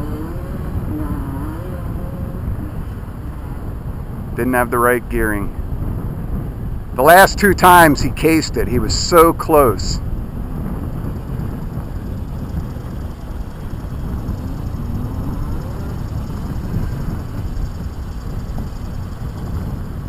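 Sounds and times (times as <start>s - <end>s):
dirt bike engines revving: 0.0s - 5.4s, 7.0s - 20.0s
wind on microphone: 0.0s - 20.0s.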